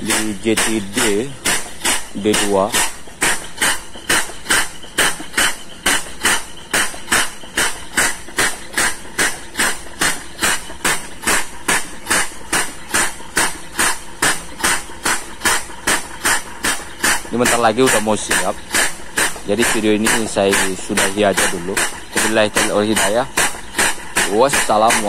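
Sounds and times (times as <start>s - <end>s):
air pump puffing exhaust: 0.0s - 25.0s.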